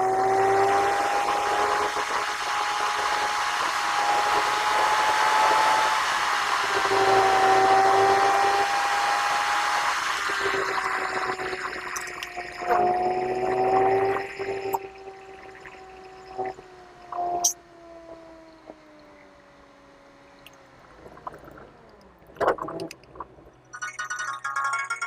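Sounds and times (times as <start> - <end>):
road and wind noise: 0.0 - 23.8
car engine whine: 0.0 - 24.0.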